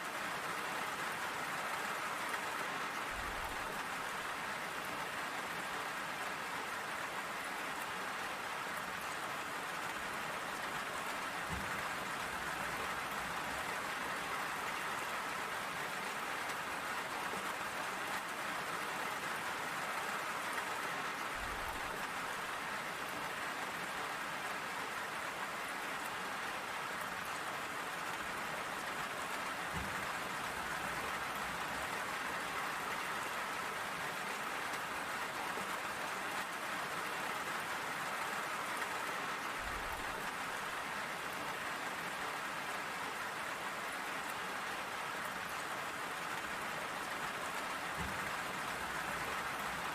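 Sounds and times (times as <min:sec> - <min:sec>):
rain pattering on surfaces: 0:00.0 - 0:49.9.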